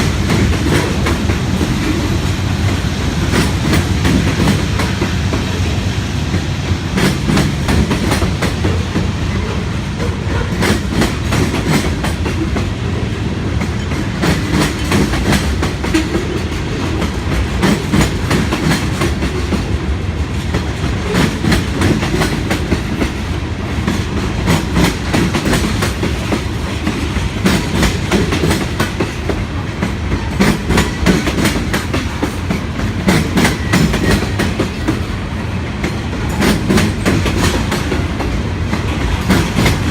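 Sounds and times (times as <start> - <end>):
train wheels clicking over joints: 0.0 - 5.7, 6.3 - 39.9
freight train rumbling past: 0.0 - 39.9.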